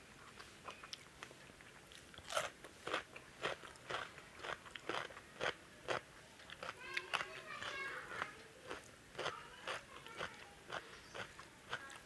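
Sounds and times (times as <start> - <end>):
crunchy chewing of raw vegetable: 0.2 - 12.0.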